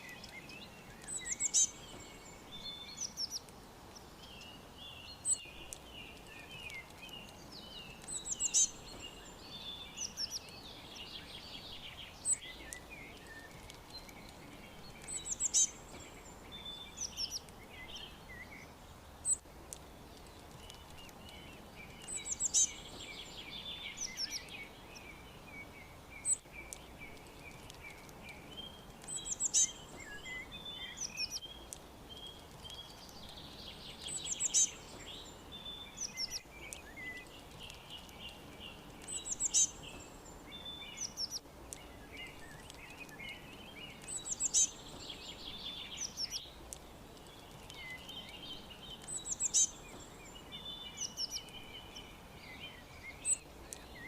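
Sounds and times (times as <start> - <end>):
low background hiss: 0.0 - 54.0
songbirds chirping and trilling: 0.0 - 54.0.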